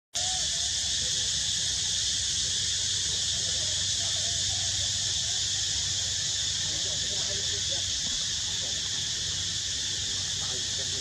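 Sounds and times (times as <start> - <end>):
insect chorus drone: 0.2 - 11.0.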